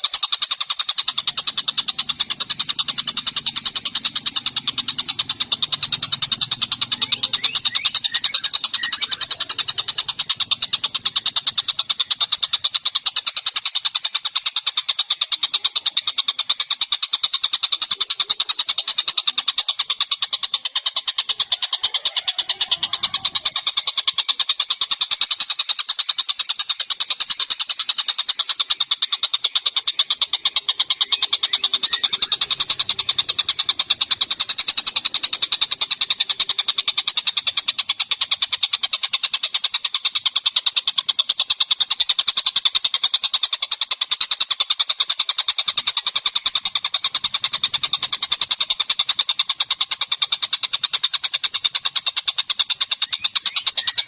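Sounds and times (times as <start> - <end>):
songbird buzzing trill: 0.0 - 54.0.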